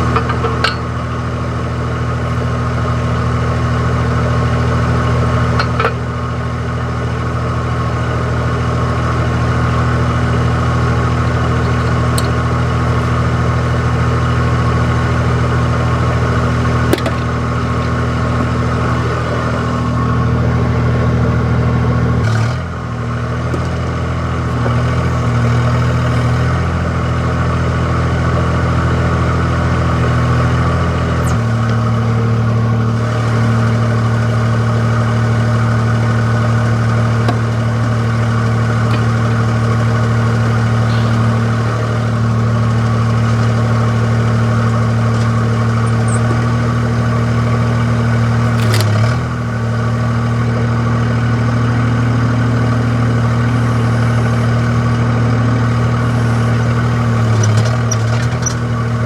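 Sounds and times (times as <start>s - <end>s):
digger diesel engine running: 0.0s - 59.0s.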